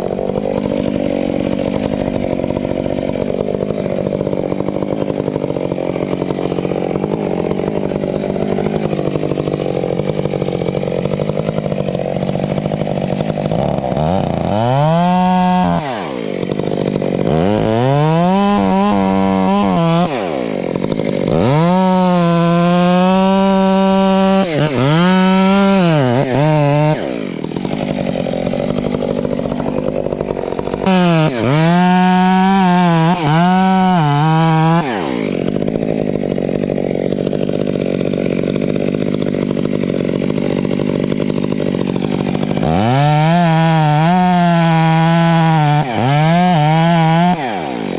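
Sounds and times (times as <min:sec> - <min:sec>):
chainsaw revving: 0:00.0 - 0:47.9.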